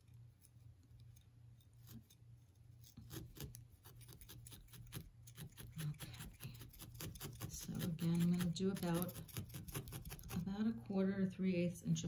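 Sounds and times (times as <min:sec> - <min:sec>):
felting needle poking wool: 0:00.0 - 0:10.6.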